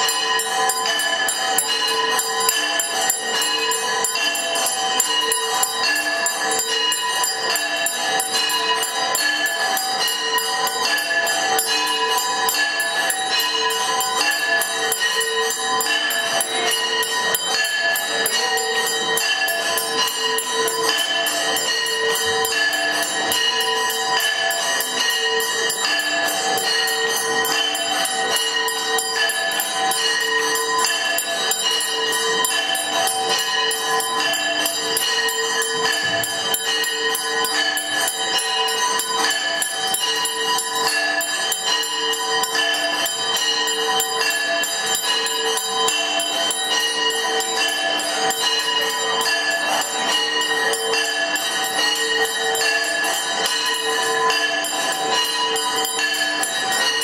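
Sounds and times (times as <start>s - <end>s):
temple bells ringing: 0.0s - 57.0s.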